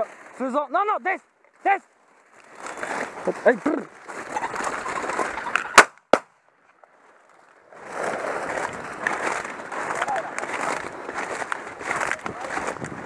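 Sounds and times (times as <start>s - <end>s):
leaves rustling underfoot: 0.0s - 5.5s, 6.5s - 13.0s.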